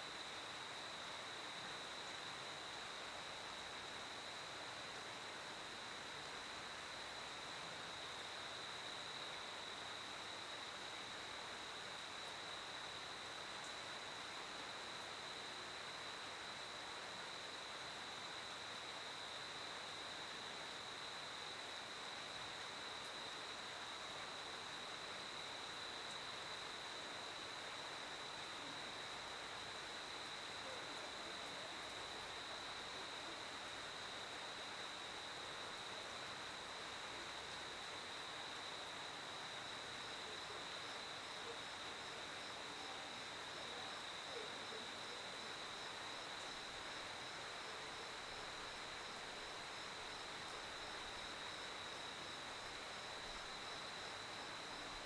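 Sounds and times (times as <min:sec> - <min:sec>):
faint hiss: 0:00.0 - 0:55.0
crickets trilling: 0:00.1 - 0:55.0.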